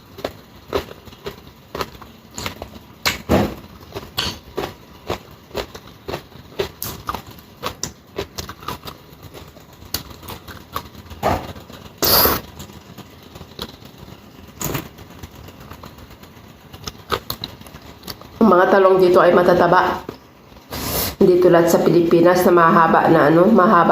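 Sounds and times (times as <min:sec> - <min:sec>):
chewing and crunching food: 0:00.0 - 0:20.7.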